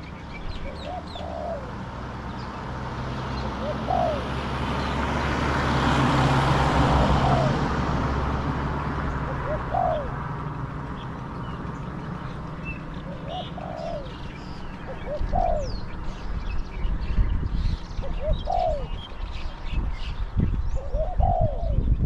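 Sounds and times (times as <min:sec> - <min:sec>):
doves cooing: 0:00.0 - 0:02.5, 0:03.1 - 0:16.3, 0:18.0 - 0:19.2, 0:20.8 - 0:21.9
car passing: 0:00.0 - 0:21.2.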